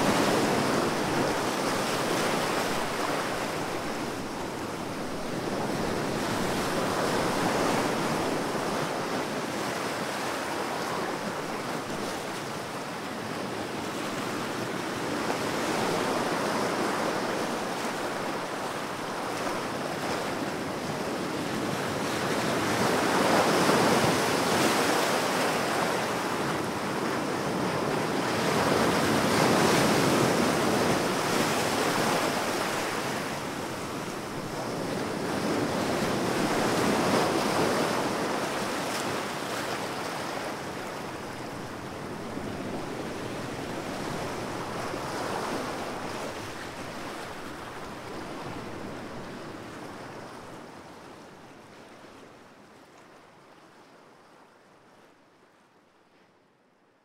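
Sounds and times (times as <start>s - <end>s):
ocean waves surging: 0.0s - 50.4s.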